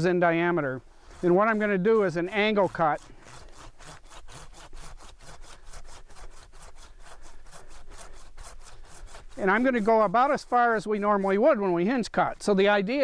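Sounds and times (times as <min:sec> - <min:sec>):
hand saw cutting wood: 0:00.0 - 0:13.0.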